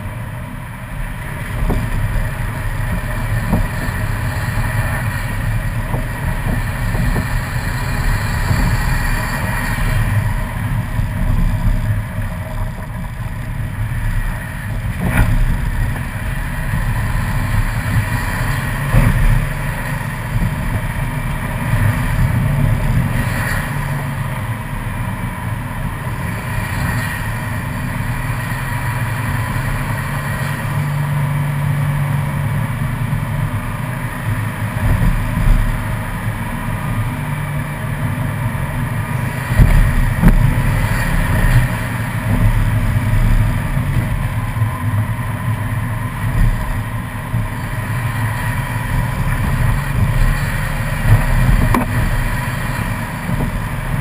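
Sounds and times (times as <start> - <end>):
car engine running: 0.0 - 54.0
tyre noise on wet road: 0.0 - 54.0.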